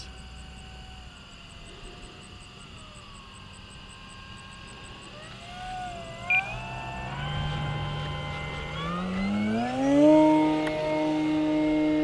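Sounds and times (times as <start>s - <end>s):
model plane motor whine: 0.0s - 12.0s.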